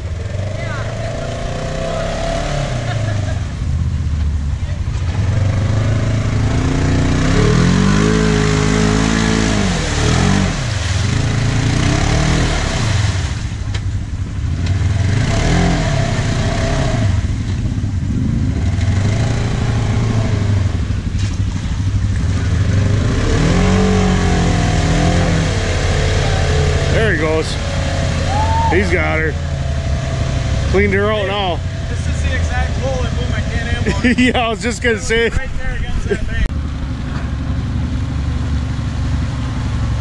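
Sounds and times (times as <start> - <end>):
utility vehicle engine revving: 0.0 - 40.0
water and mud sloshing: 0.4 - 14.9, 17.0 - 35.5.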